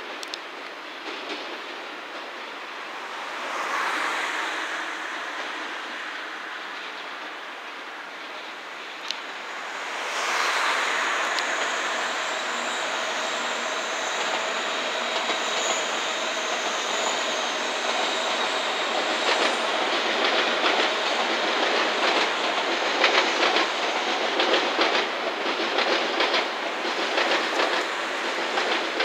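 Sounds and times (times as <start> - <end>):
train rolling over tracks: 0.0 - 29.0
high wheel squeal: 2.6 - 29.0.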